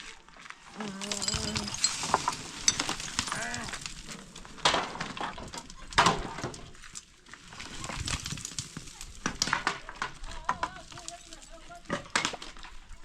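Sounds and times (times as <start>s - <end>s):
debris knocking and clinking: 0.8s - 7.0s, 7.8s - 12.9s.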